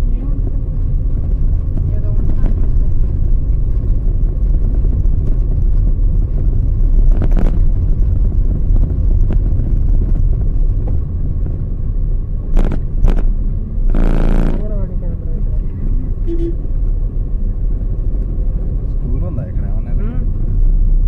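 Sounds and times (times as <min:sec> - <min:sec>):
vehicle road and wind noise: 0:00.0 - 0:21.0.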